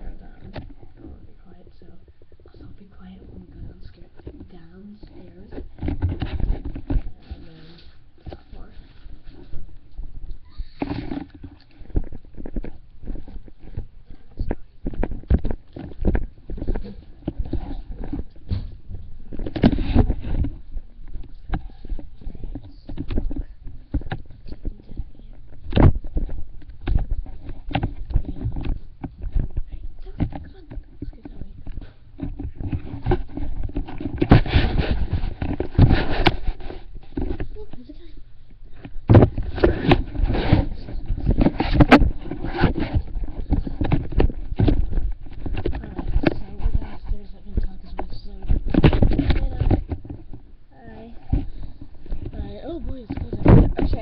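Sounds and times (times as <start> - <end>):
irregular knocks and thumps: 0.0 - 7.6, 8.2 - 37.8, 38.5 - 54.0
rustling: 0.0 - 54.0.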